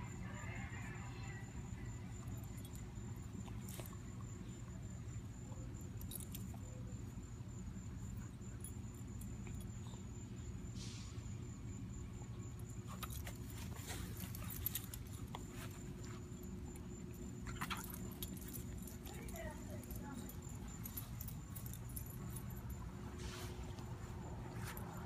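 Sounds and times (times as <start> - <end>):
collar tags jingling: 0.4 - 10.5, 12.0 - 25.0.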